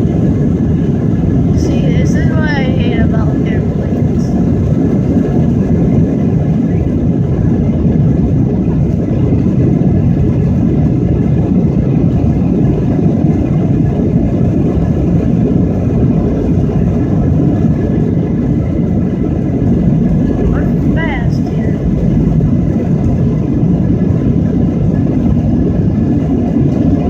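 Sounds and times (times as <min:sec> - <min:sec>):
jet engines and runway rumble: 0:00.0 - 0:27.0.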